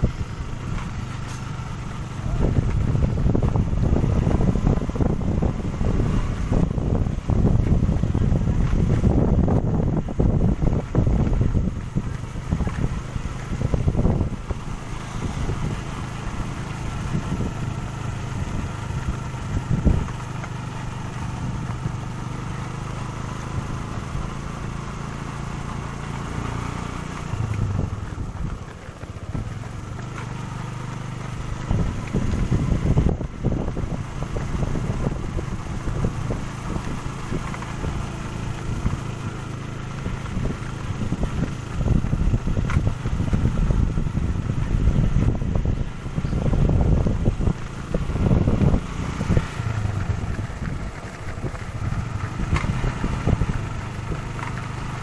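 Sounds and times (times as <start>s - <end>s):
vehicle engine running: 0.0s - 55.0s
wind rumbling on microphone: 0.0s - 55.0s.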